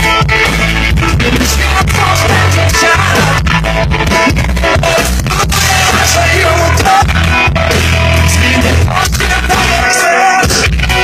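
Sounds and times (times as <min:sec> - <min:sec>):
pop-rock band playing live: 0:00.0 - 0:11.0.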